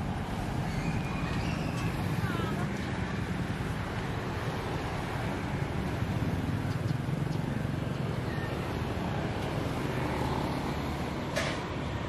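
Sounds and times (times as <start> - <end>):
passing motorbikes and cars: 0.0 - 12.0.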